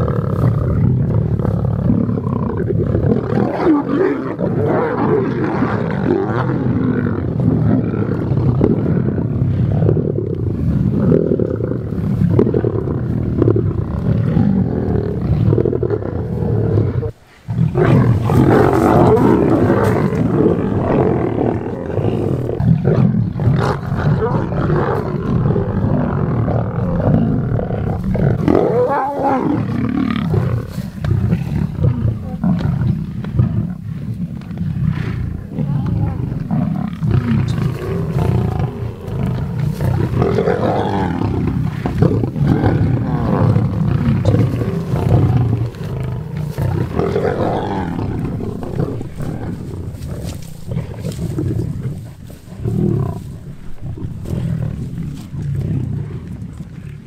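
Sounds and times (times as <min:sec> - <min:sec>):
lions growling and snarling: 0:00.0 - 0:57.0.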